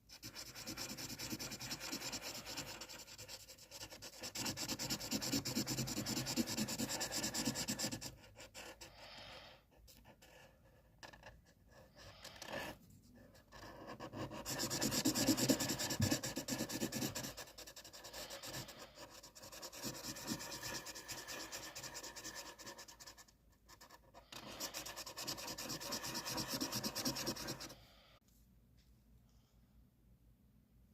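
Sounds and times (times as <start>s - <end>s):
drawing tool scratching paper: 0.0s - 27.8s.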